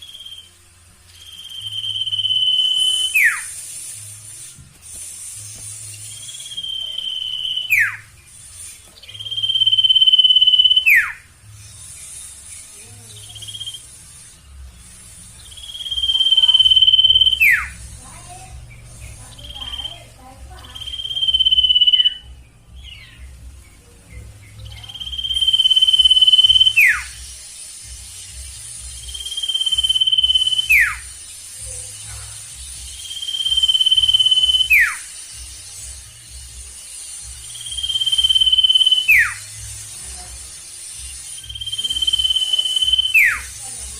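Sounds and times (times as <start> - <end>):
bird trilling: 0.0 - 4.0, 5.7 - 23.5, 24.2 - 27.4, 28.1 - 43.9.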